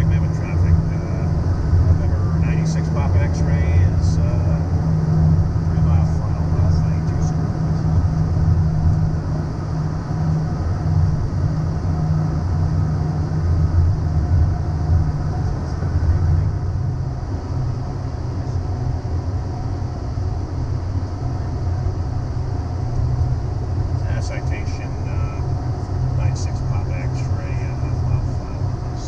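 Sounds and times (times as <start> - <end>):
jet cockpit engine rumble: 0.0 - 29.0.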